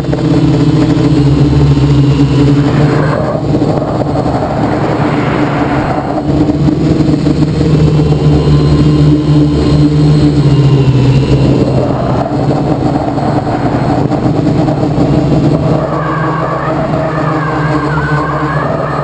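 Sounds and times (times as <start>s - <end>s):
drone propellers humming: 0.0s - 19.0s
rushing wind noise: 0.0s - 19.0s.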